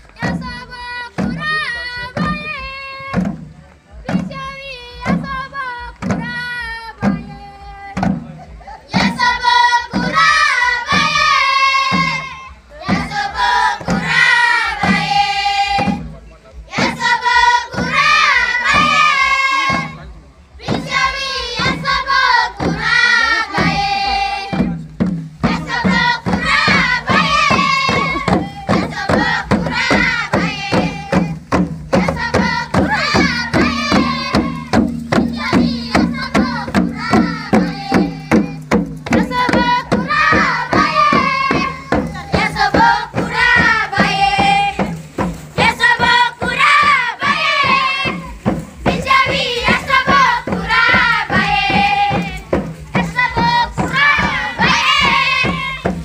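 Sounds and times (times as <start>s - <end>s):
men and women singing call-and-response: 0.0s - 56.0s
fast hand drum beat: 0.1s - 56.0s.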